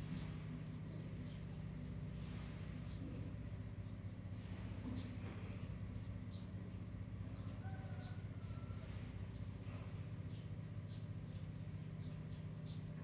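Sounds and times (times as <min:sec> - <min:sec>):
low hum: 0:00.0 - 0:13.0
small birds chirping: 0:00.0 - 0:13.0.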